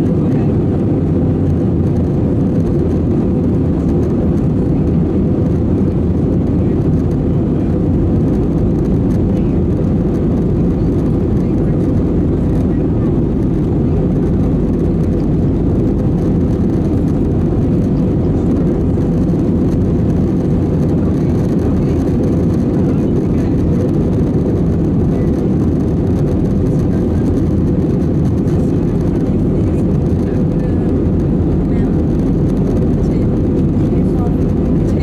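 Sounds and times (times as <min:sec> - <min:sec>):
airflow rush in cabin: 0:00.0 - 0:35.0
jet engines droning: 0:00.0 - 0:35.0
low hum: 0:00.0 - 0:35.0.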